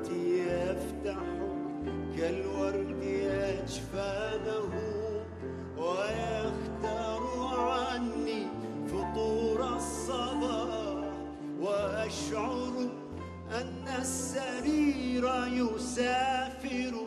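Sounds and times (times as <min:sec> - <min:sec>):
low bass notes: 0:00.0 - 0:17.0
man singing: 0:00.0 - 0:17.0
piano and band accompaniment: 0:00.0 - 0:17.0.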